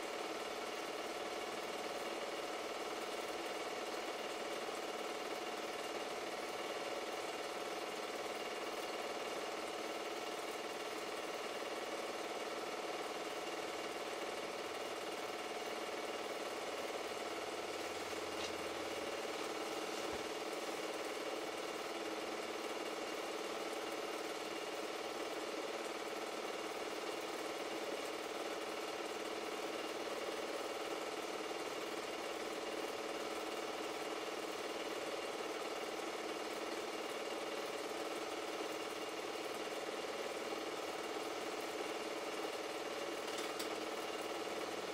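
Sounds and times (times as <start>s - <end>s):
film projector running: 0.0s - 44.9s.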